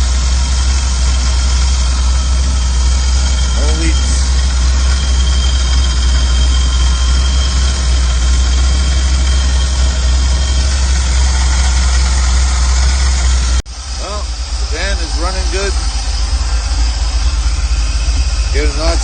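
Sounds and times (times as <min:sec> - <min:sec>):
van engine idling: 0:00.0 - 0:19.0.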